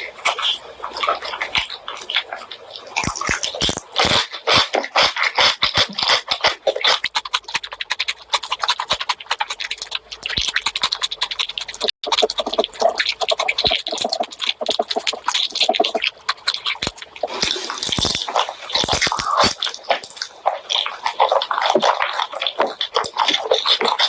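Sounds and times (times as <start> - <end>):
chewing and lip-smacking: 0.0 - 24.0.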